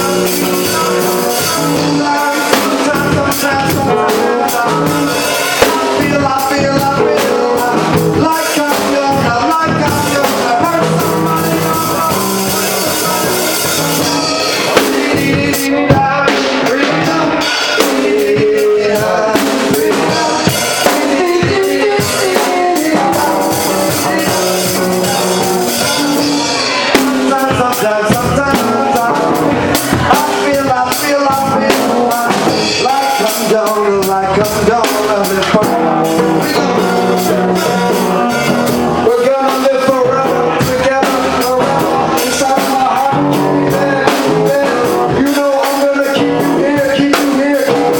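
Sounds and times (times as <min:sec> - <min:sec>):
bass guitar: 0:00.0 - 0:47.9
drums and cymbals: 0:00.0 - 0:47.9
electric guitar: 0:00.0 - 0:47.9.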